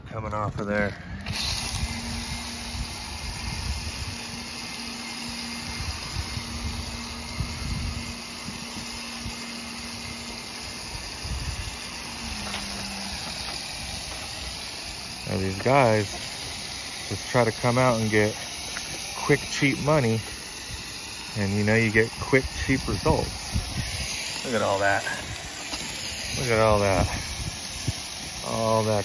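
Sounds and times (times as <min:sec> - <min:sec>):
foam sprayer hissing: 0:00.8 - 0:29.0
machine hum: 0:01.0 - 0:29.0.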